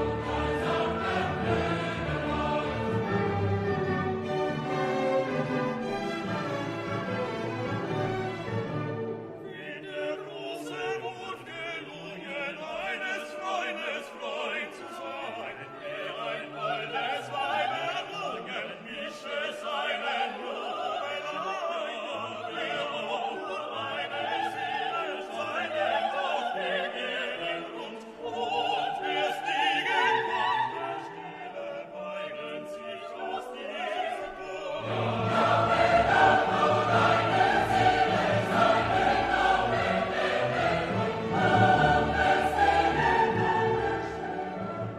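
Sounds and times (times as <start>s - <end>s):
operatic singing with orchestra: 0.0s - 44.9s.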